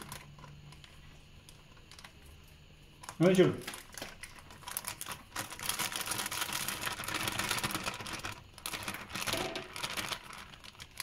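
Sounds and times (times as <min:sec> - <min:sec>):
plastic bag crinkling in water: 0:00.0 - 0:02.3, 0:03.0 - 0:11.0.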